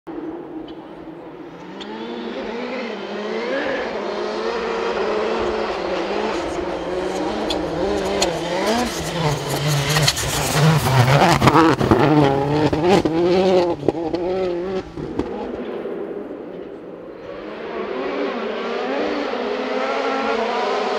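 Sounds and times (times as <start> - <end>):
rally car engine revving: 0.1 - 20.9.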